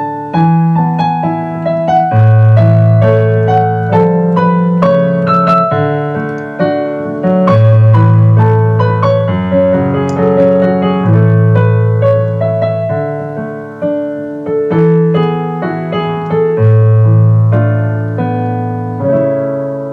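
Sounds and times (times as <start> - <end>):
gentle piano music: 0.0 - 19.9.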